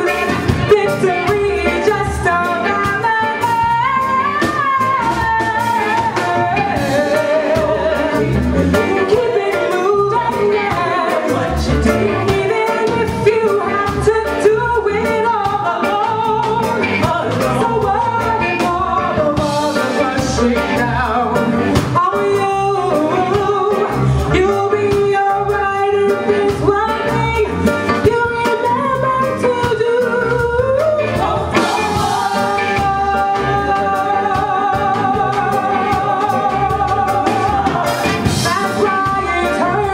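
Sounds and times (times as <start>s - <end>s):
lead vocal singing: 0.0s - 39.9s
reggae band playing: 0.0s - 39.9s.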